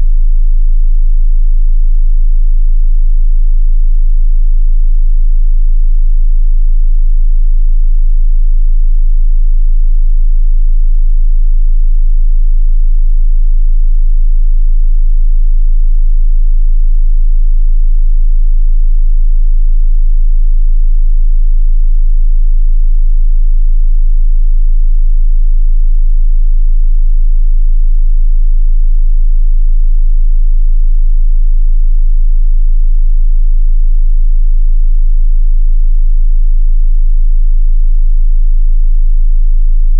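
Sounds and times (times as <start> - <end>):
deep bass test tone: 0.0 - 39.9.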